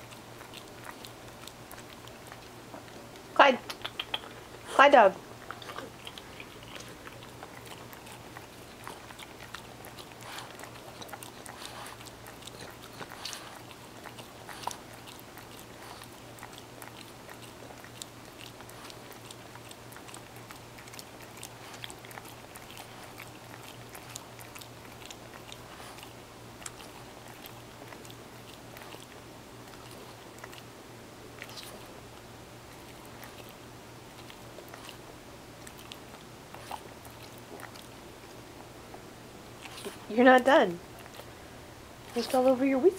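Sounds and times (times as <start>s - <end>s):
dog licking and smacking lips: 0.0s - 42.9s.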